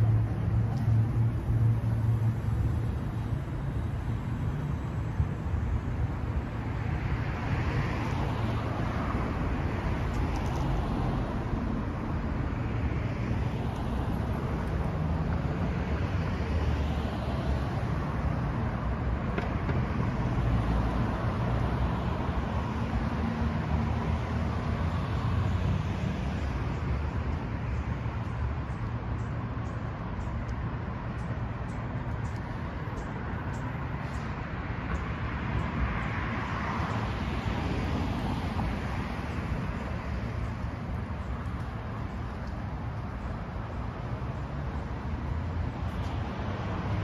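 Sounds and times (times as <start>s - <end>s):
road traffic hum: 0.0s - 47.0s.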